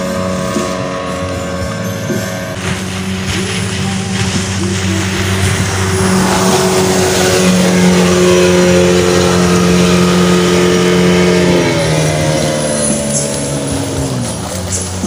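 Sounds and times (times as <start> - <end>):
outboard motor running hard: 0.0 - 15.0.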